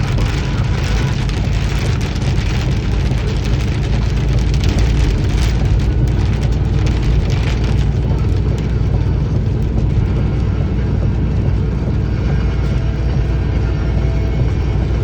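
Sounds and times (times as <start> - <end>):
constant low rumble: 0.0 - 15.0
rain spattering on a surface: 0.0 - 15.0.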